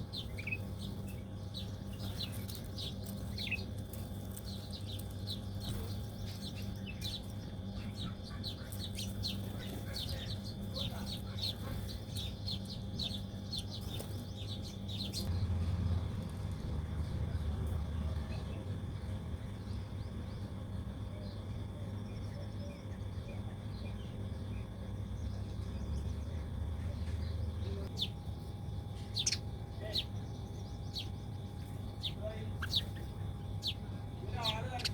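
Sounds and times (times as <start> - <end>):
small birds chirping: 0.0 - 34.9
steady low hum: 0.0 - 34.9.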